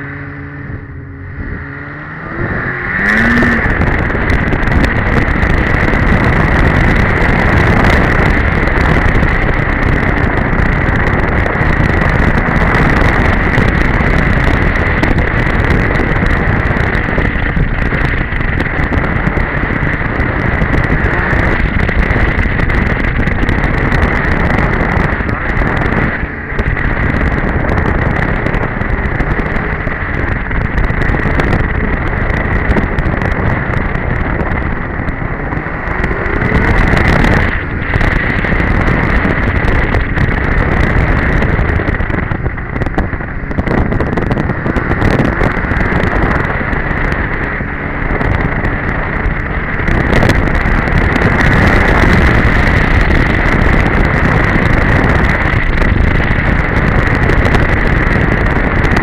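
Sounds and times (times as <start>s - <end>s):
snowmobile engine running: 0.0s - 59.0s
wind on microphone: 0.0s - 59.0s.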